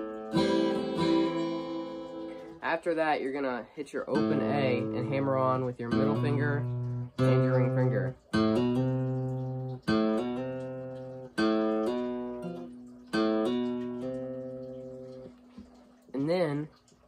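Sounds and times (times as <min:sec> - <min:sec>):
acoustic guitar plucked fingerstyle: 0:00.0 - 0:16.9.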